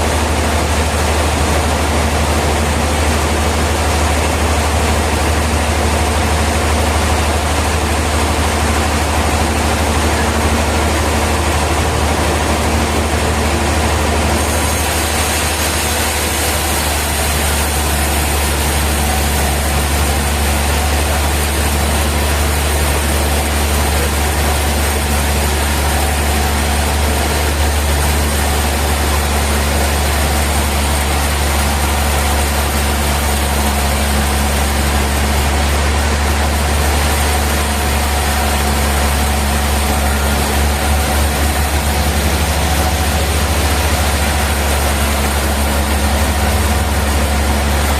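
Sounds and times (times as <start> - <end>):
sawmill machinery drone: 0.0 - 47.9.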